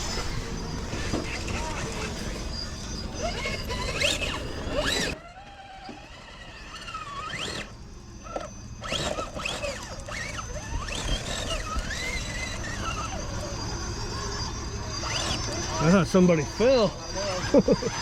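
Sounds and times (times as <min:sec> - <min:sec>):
electric motors whining: 0:00.0 - 0:18.0.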